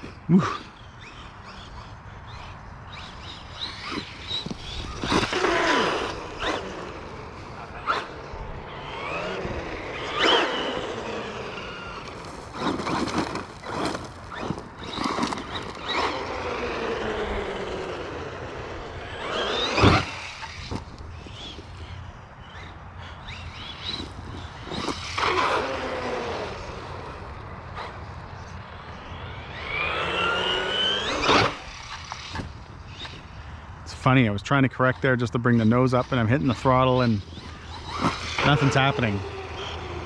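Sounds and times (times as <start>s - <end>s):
tyres scrabbling over ground: 0.0s - 22.0s, 23.3s - 33.4s, 35.8s - 40.0s
electric motor whining: 0.0s - 33.4s, 36.1s - 40.0s.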